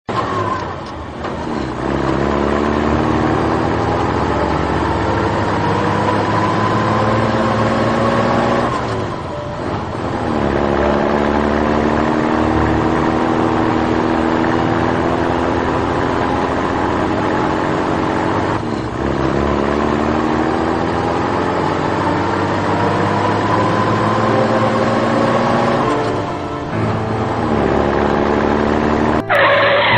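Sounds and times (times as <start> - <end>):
vehicle engine revving: 0.1 - 29.9.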